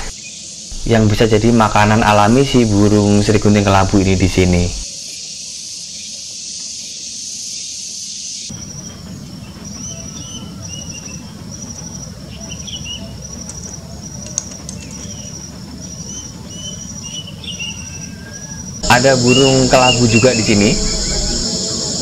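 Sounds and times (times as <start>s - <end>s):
insect chirping: 0.0s - 22.0s
insects hissing: 0.0s - 22.0s.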